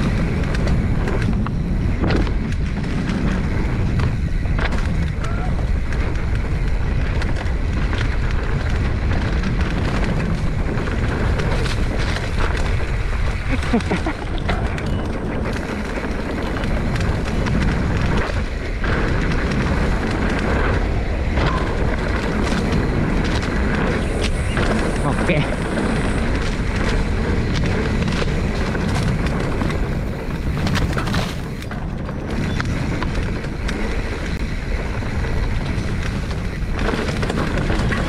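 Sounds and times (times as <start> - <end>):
bike clicks and rattles: 0.0 - 38.0
bike tyres rumbling on dirt: 0.0 - 38.0
wind buffeting microphone: 0.0 - 38.0.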